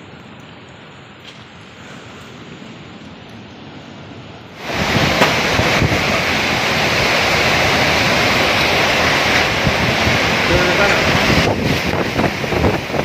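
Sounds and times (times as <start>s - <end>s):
heavy rain: 0.0s - 13.0s
storm wind buffeting microphone: 1.5s - 13.0s.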